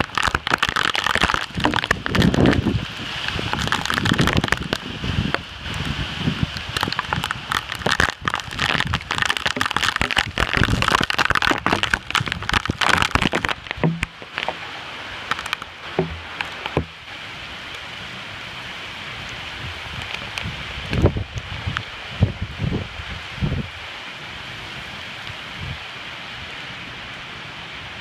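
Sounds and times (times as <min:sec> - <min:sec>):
gusty wind: 0:00.0 - 0:25.9
heavy rain falling: 0:00.0 - 0:28.0.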